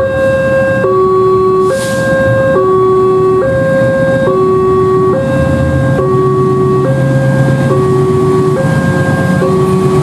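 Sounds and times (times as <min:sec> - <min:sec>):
diesel locomotive engine hum: 0:00.0 - 0:10.0
two-tone level crossing alarm: 0:00.0 - 0:10.0.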